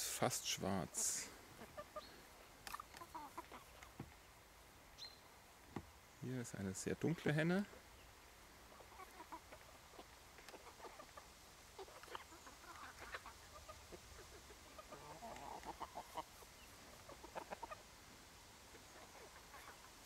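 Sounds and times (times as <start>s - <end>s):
chickens clucking faintly: 0.0s - 20.0s.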